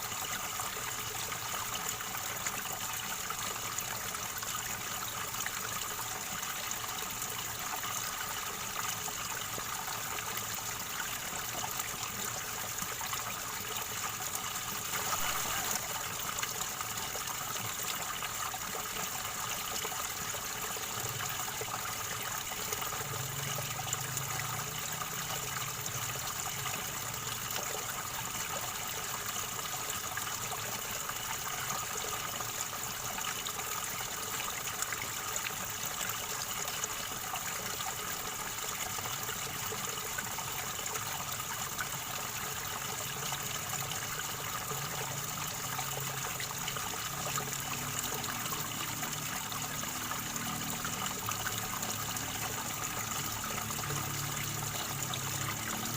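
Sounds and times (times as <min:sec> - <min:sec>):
river water gurgling over stones: 0:00.0 - 0:55.9.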